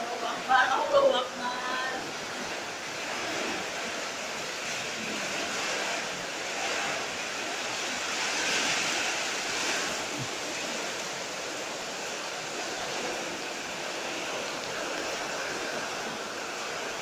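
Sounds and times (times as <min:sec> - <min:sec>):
heavy rain pouring: 0:00.0 - 0:17.0
strong wind: 0:00.0 - 0:17.0.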